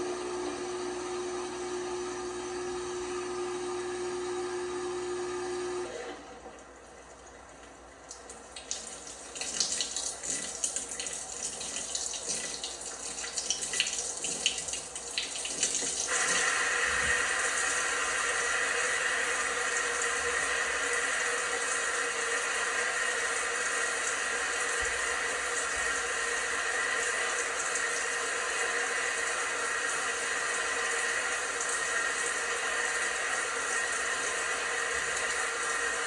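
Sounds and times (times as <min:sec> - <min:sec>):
water rushing into washing machine: 0:05.0 - 0:36.0.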